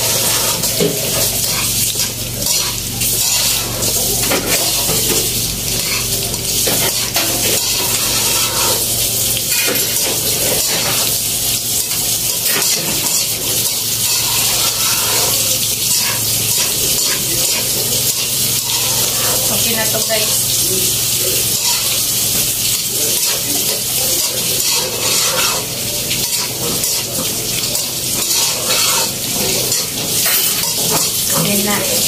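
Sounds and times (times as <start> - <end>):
metal utensil scraping a pan: 0.0 - 20.5, 21.2 - 32.0
food sizzling in a wok: 0.0 - 32.0.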